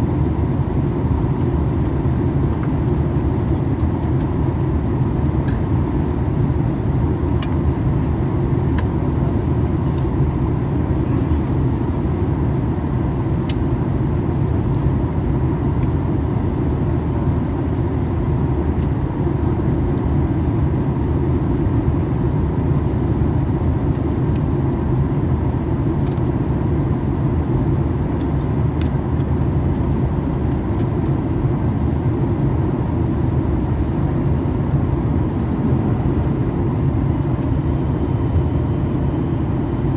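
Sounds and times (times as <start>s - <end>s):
airplane cabin engine rumble: 0.0s - 39.9s
faint steady whine: 0.0s - 39.9s.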